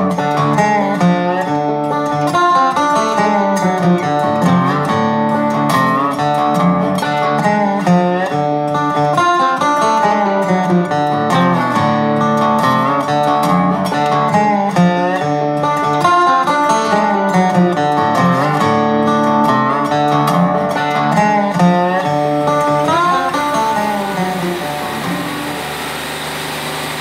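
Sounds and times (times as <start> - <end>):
plucked guitar music: 0.0 - 27.0.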